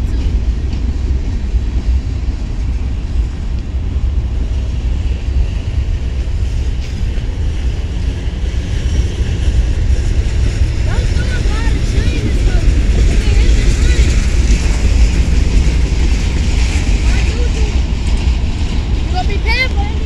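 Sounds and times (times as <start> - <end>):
freight train low rumble: 0.0 - 20.0.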